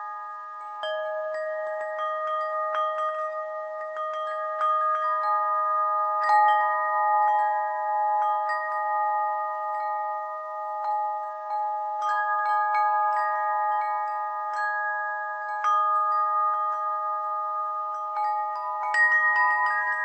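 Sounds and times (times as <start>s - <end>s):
metal chimes ringing: 0.0s - 20.0s.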